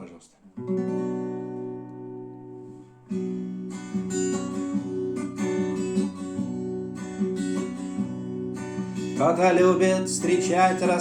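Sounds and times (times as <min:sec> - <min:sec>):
acoustic guitar strumming: 0:00.4 - 0:11.0.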